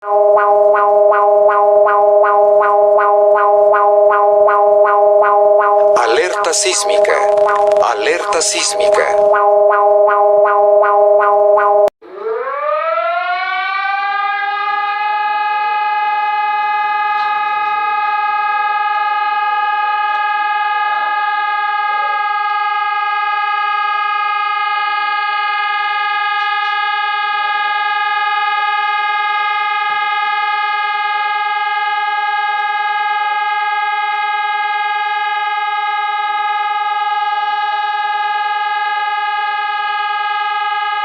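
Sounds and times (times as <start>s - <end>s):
warning siren: 0.0s - 41.0s.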